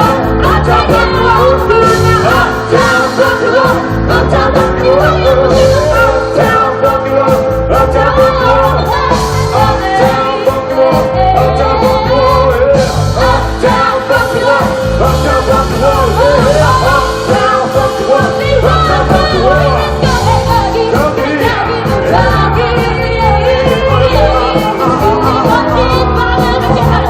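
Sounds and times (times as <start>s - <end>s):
bass line: 0.0s - 27.0s
person singing: 0.0s - 27.0s.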